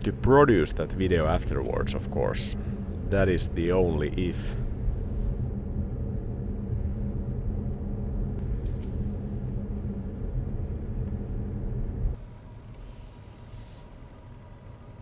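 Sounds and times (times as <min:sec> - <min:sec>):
faint hum: 0:00.0 - 0:15.0
road and tyre rumble in car: 0:00.0 - 0:15.0.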